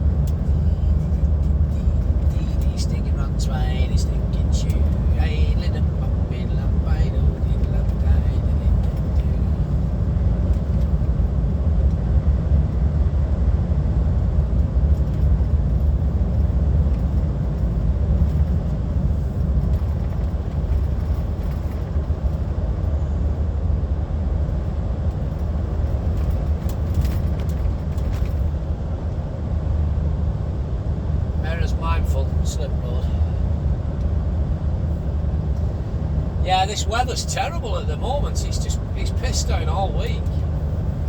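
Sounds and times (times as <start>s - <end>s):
lorry diesel engine rumble: 0.0s - 41.0s
tyres on road: 0.0s - 41.0s.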